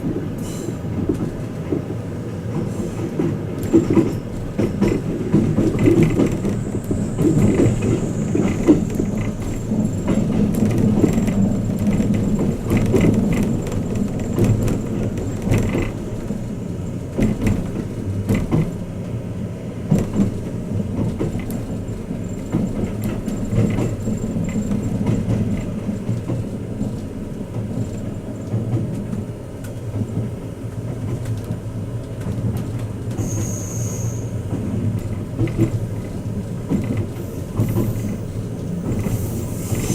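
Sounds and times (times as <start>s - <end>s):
train running low rumble: 0.0s - 39.9s.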